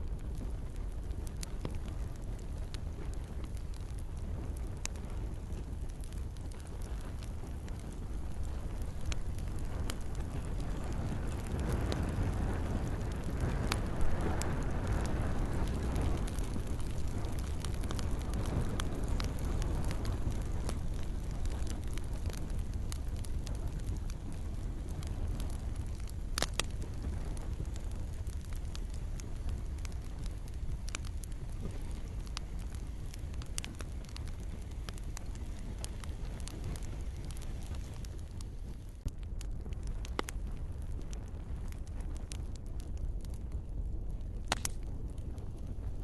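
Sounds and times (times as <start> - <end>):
campfire crackling: 0.0 - 46.0
fire popping and snapping: 0.0 - 46.0
low rumble of flames: 0.0 - 46.0.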